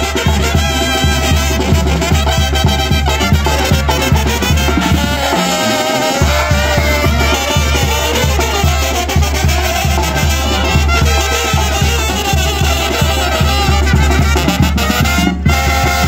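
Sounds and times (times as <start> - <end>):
brass band playing: 0.0 - 16.0
pulsing tuba bass line: 0.0 - 16.0.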